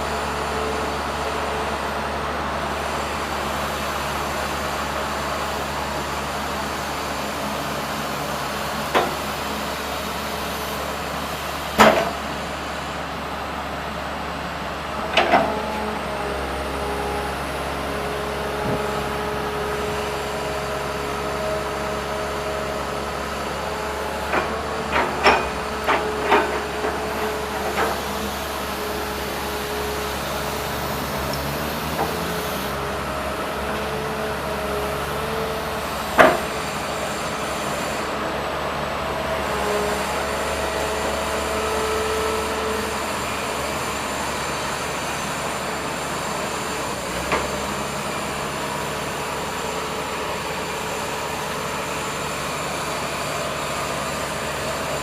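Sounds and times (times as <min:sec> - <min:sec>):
excavator engine and hydraulic whine: 0:00.0 - 0:55.0.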